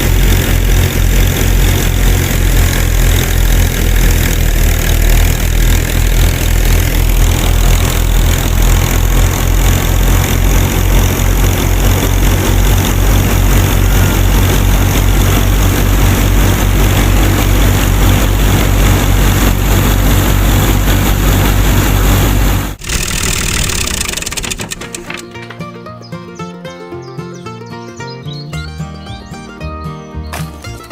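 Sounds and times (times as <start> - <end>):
engine running with pulsing beat: 0.0 - 25.6.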